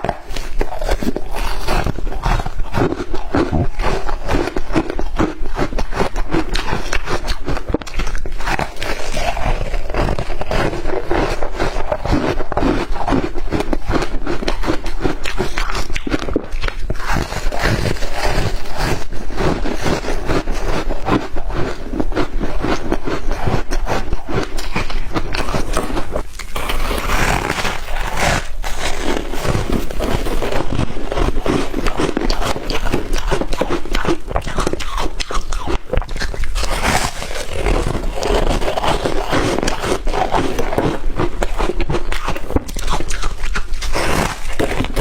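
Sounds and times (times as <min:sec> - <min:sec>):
shaved ice crunching and chewing: 0:00.0 - 0:45.0.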